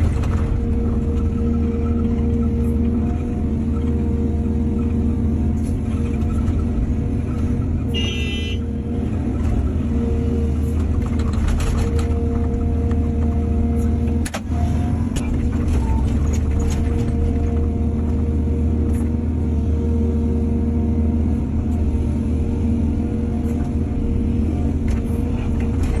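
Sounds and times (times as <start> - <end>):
diesel machinery engine running: 0.0 - 26.0.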